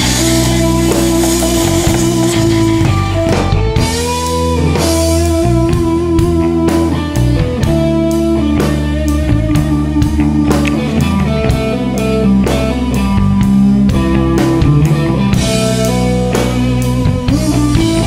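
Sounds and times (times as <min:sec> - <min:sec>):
electric guitar: 0:00.0 - 0:18.0
steady drum beat: 0:00.0 - 0:18.0.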